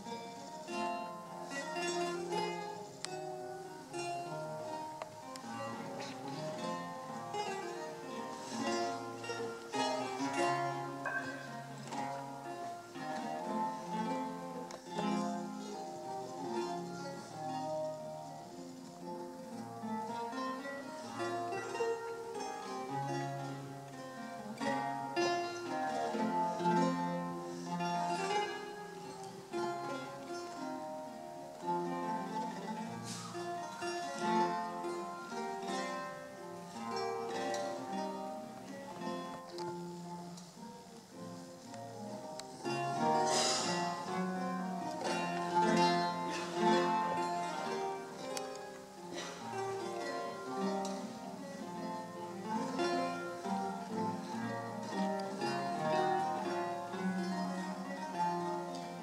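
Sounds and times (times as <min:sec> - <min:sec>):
solo lute playing: 0:00.0 - 0:59.0.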